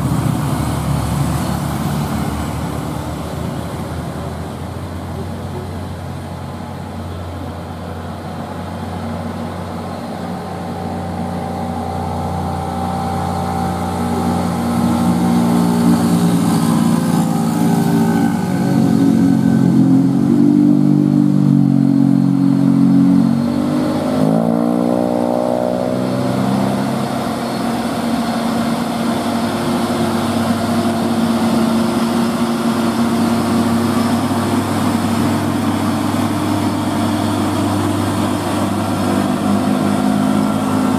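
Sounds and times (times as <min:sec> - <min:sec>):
truck diesel engine climbing: 0:00.0 - 0:40.9.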